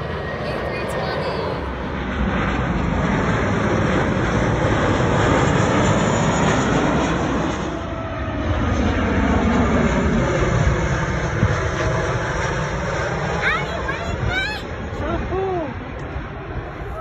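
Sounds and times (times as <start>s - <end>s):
airliner engine rush: 0.0s - 17.0s.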